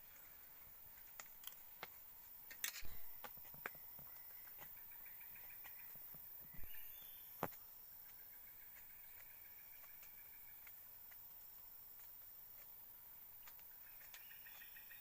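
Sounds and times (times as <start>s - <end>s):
faint forest ambience: 0.0s - 15.0s.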